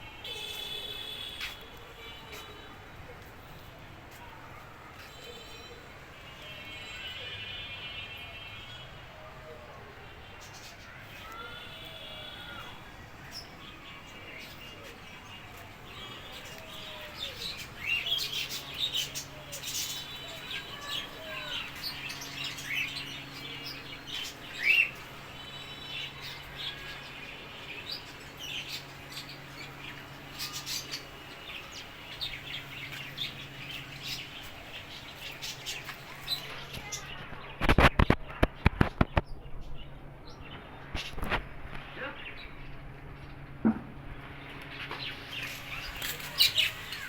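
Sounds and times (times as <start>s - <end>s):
caged birds chirping: 0.0s - 47.0s.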